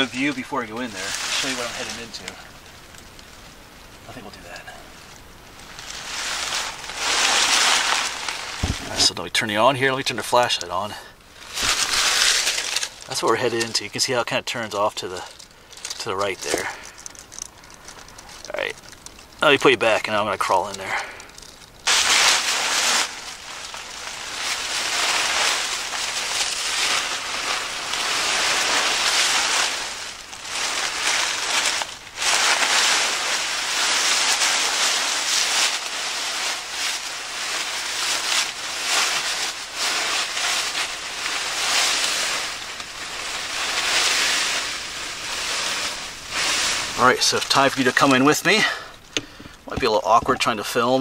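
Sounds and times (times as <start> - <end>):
dry leaves rustling and crunching: 0.0 - 51.0.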